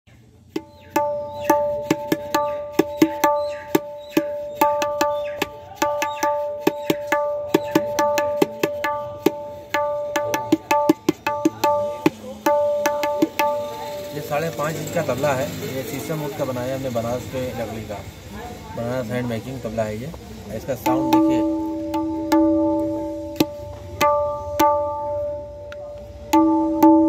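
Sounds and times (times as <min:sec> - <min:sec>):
hand drum strokes: 0:00.4 - 0:17.0, 0:20.7 - 0:27.0.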